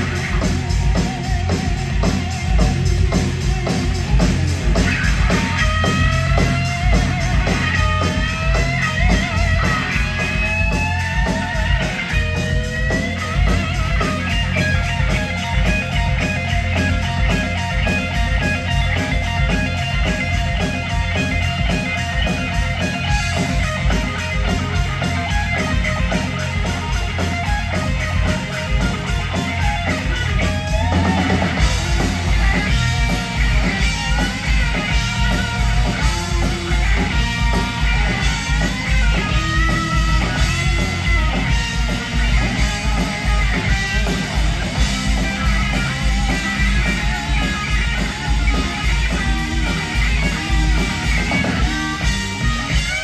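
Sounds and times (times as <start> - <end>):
electric guitar lead bending notes: 0.0 - 53.0
live rock band playing: 0.0 - 53.0.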